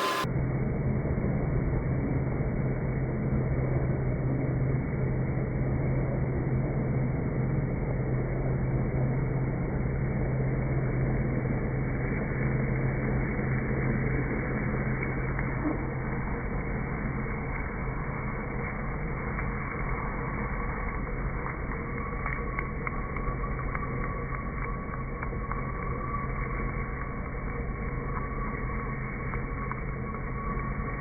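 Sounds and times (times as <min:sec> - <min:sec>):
slowed drill low drone: 0:00.0 - 0:31.0.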